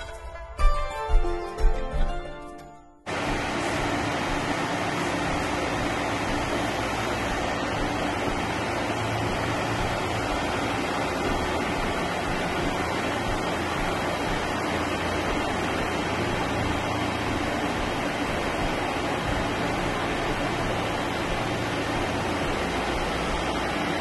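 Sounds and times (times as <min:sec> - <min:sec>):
steady rushing noise: 0:03.1 - 0:24.0.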